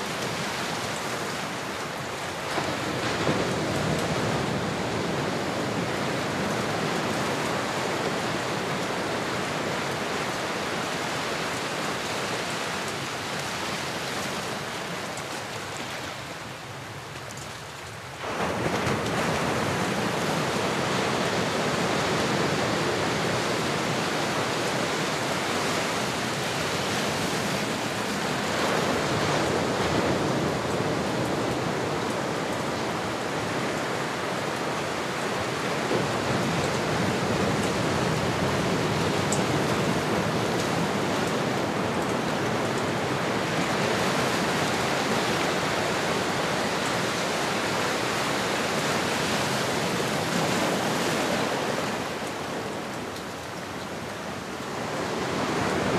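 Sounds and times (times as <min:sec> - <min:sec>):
ocean waves and surf: 0:00.0 - 0:55.9.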